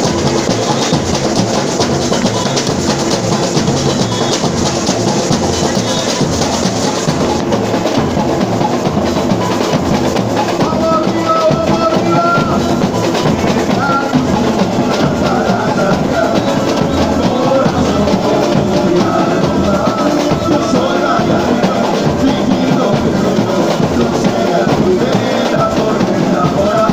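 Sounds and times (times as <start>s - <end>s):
samba percussion band: 0.0s - 26.9s.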